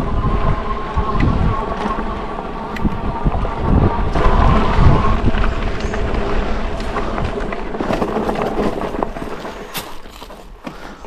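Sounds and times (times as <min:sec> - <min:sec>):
wind on microphone: 0:00.0 - 0:10.1
tyres rolling over rough ground: 0:00.0 - 0:11.0.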